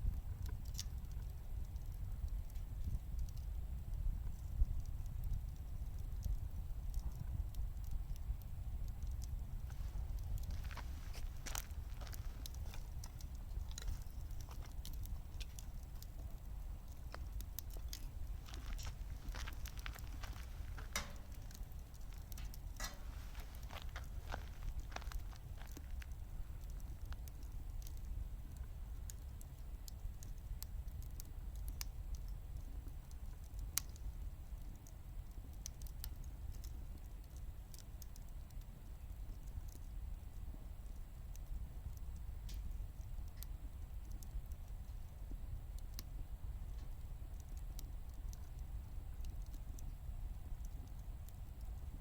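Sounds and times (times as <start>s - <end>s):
stove low rumble: 0.0s - 52.0s
wood fire crackling and popping: 0.0s - 52.0s.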